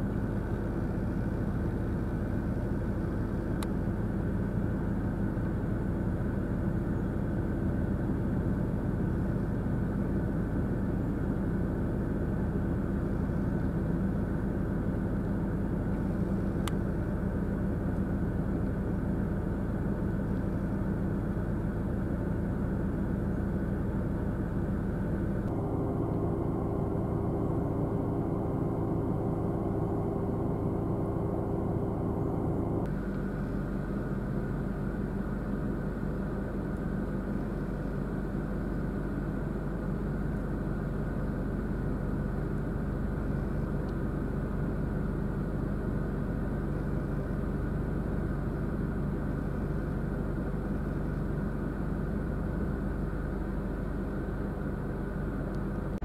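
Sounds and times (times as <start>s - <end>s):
droning engine hum: 0.0s - 56.0s
road traffic rumble: 0.0s - 56.0s.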